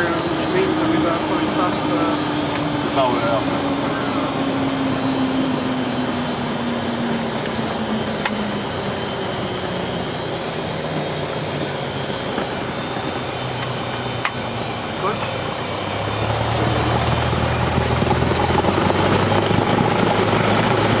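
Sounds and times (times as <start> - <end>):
light aircraft engine and propeller: 0.0 - 21.0.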